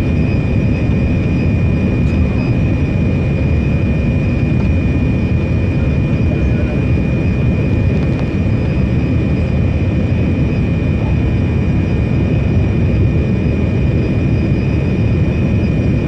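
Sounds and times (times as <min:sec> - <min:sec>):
airplane cabin engine rumble: 0:00.0 - 0:16.0
faint high whine: 0:00.0 - 0:16.0.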